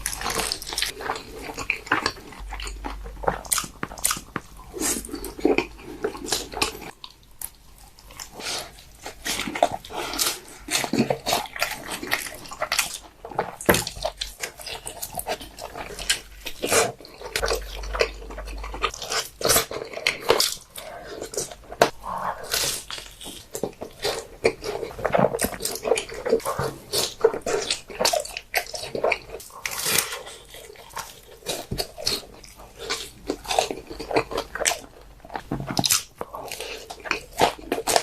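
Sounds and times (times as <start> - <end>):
crunching and chewing food: 0.0 - 38.0.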